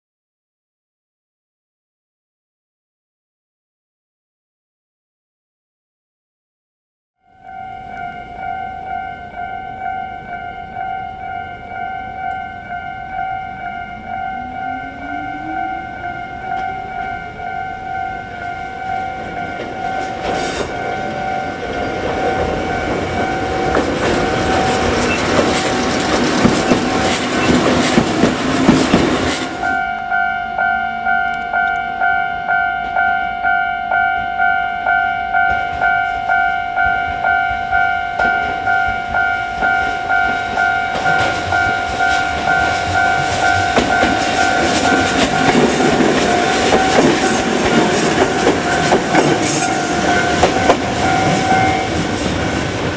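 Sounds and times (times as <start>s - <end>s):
level crossing bell ringing: 7.2s - 28.6s, 29.5s - 52.9s
train running noise: 7.6s - 33.1s, 35.0s - 52.9s.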